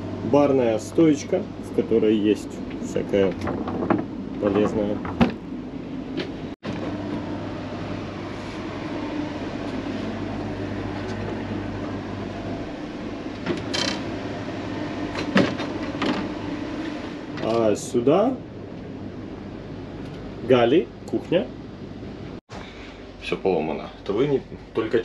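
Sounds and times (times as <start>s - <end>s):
low mechanical drone of machinery: 0.0s - 25.0s.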